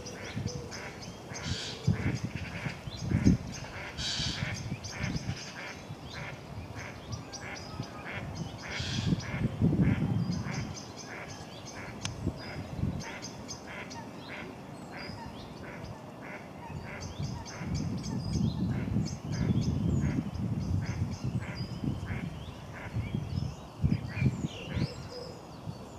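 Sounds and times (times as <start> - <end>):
waterbirds calling: 0.0 - 25.9.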